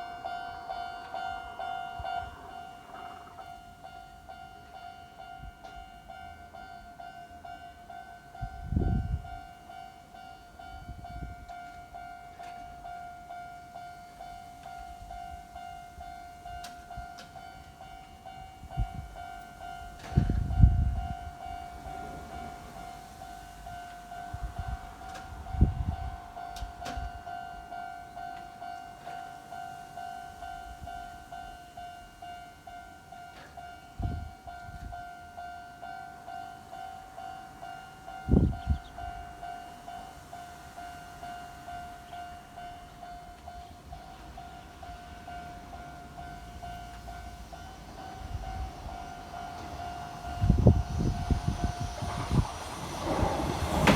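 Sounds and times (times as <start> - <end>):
low thuds from passing train: 0.0 - 13.0, 14.6 - 29.7, 32.2 - 35.5, 37.4 - 53.9
level crossing warning bell: 0.0 - 53.9.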